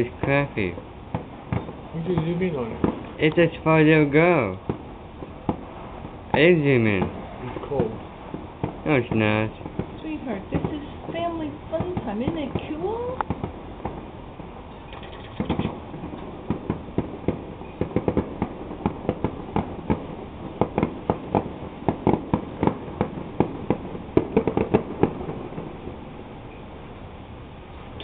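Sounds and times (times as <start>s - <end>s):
fireworks bangs and pops: 0.0s - 26.7s.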